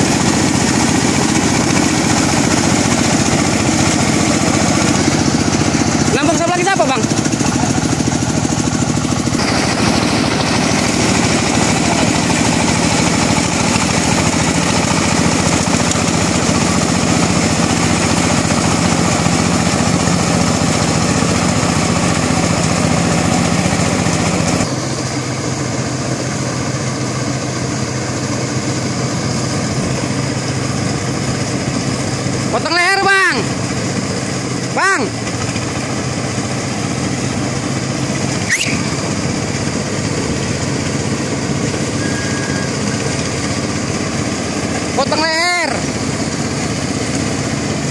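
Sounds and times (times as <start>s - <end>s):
combine harvester machinery running: 0.0s - 47.9s.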